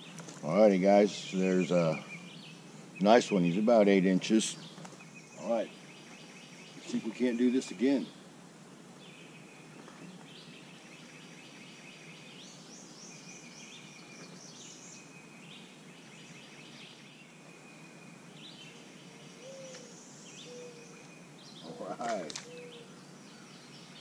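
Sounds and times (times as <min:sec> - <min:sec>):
background hiss: 0:00.0 - 0:24.0
faint birdsong trills: 0:00.0 - 0:24.0.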